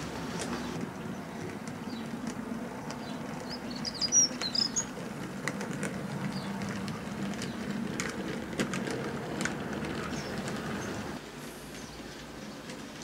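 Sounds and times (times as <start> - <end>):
model train wheels clicking: 0.0 - 13.0.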